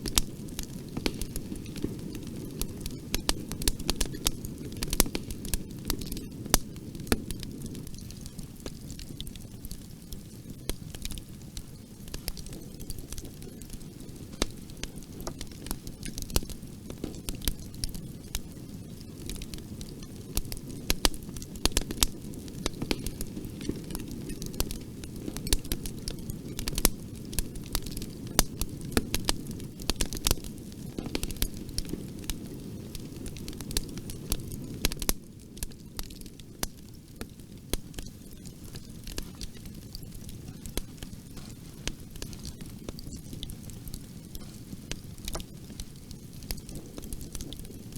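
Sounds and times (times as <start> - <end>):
burning wood crackling and popping: 0.0 - 47.9
low rumble of flames: 0.0 - 47.9.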